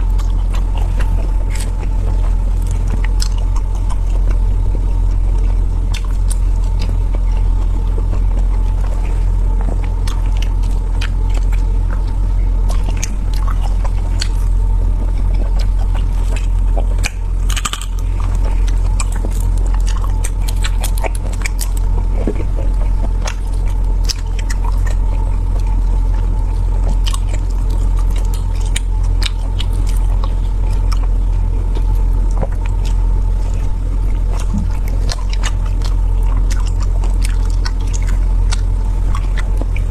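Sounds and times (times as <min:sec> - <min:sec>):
chewing and biting food: 0:00.0 - 0:39.9
loud steady low rumble: 0:00.0 - 0:39.9.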